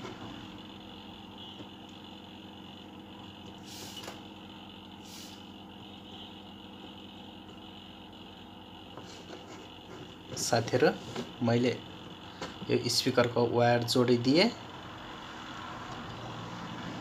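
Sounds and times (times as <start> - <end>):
faint steady tones: 0.0 - 17.0
low background hum: 0.0 - 17.0.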